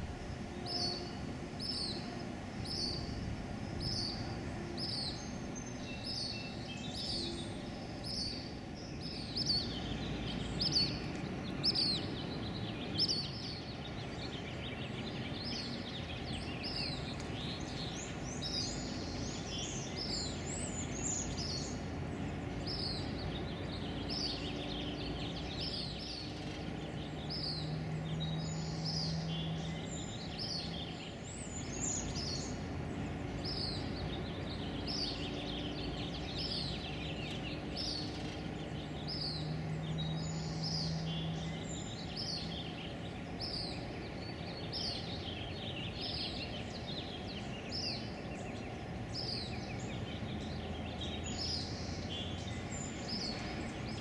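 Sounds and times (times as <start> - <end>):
low outdoor background noise: 0.0 - 54.0
small bird chirping: 0.5 - 54.0.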